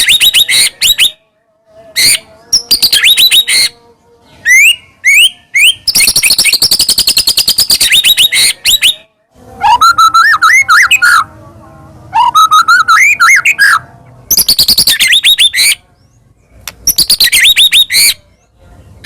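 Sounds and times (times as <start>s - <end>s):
bird singing loudly: 0.0s - 1.3s, 1.9s - 11.3s, 12.1s - 16.2s, 16.8s - 18.4s.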